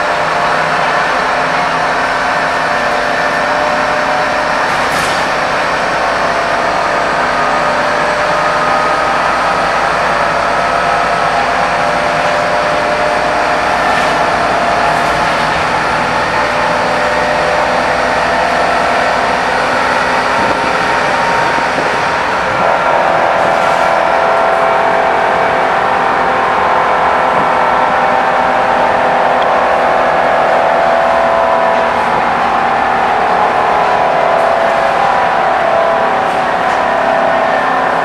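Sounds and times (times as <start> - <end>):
bus diesel engine running: 0.0 - 38.0
road and tyre noise: 0.0 - 38.0.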